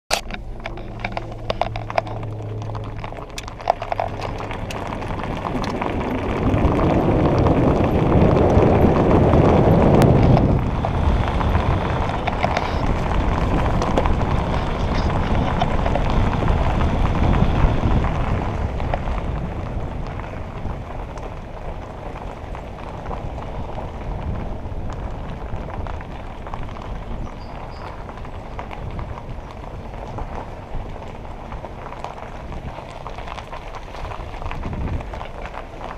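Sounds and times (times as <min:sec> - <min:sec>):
car road and wind noise: 0:00.1 - 0:35.9.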